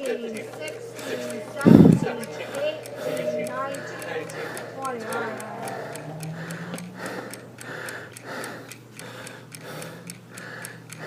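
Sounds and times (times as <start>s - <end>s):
clock ticking: 0.0s - 11.0s
rhythmic breathy sound: 0.0s - 11.0s.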